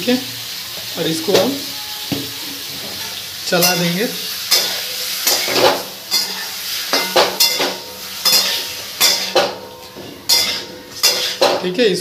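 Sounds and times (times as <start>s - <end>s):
frying sizzle: 0.0s - 12.0s
spatula scraping metal pan: 1.6s - 11.6s.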